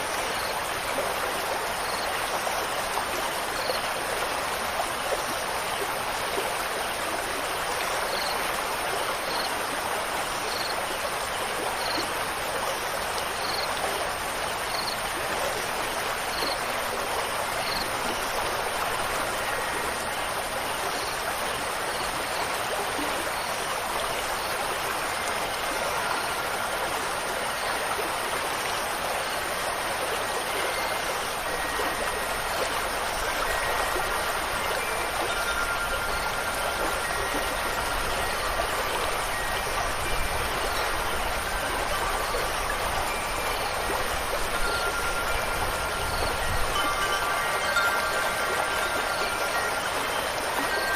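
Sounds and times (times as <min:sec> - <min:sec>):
flowing water rushing: 0:00.0 - 0:50.9.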